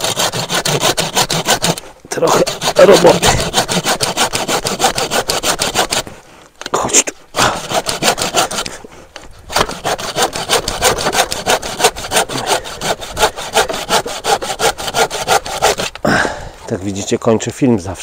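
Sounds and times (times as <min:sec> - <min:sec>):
hand saw cutting wood: 0:00.0 - 0:06.2, 0:07.3 - 0:08.9, 0:09.5 - 0:16.1.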